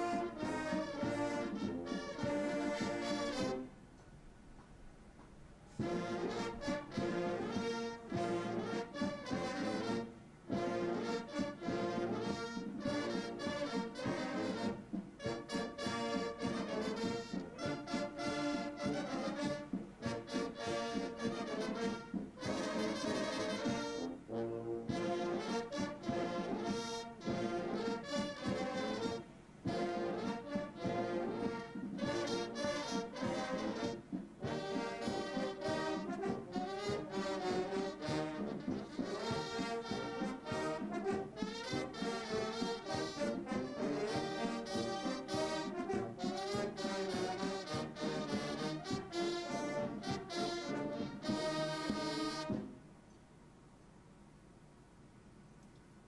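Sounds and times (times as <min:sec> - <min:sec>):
brass band playing: 0:00.0 - 0:03.8, 0:05.7 - 0:52.8.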